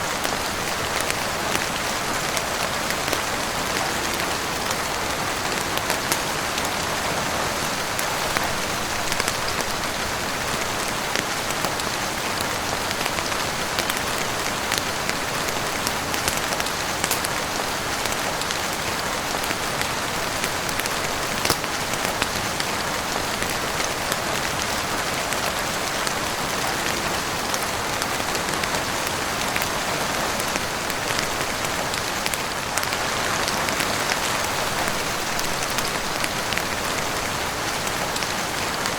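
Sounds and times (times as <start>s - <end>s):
heavy rain on roof: 0.0s - 38.9s.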